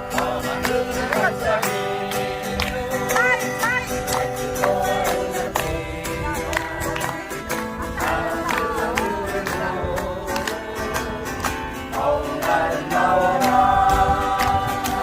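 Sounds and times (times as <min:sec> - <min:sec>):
acoustic guitar strumming: 0:00.0 - 0:15.0
people singing along: 0:00.0 - 0:15.0.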